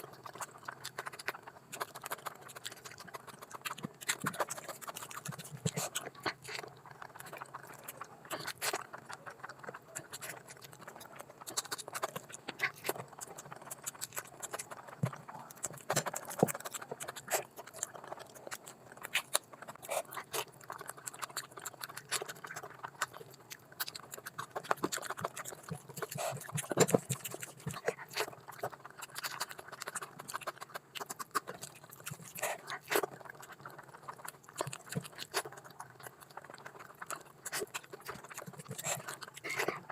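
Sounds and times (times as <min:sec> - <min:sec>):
mouth clicks and snaps: 0:00.0 - 0:39.9
person chewing food: 0:00.0 - 0:39.9.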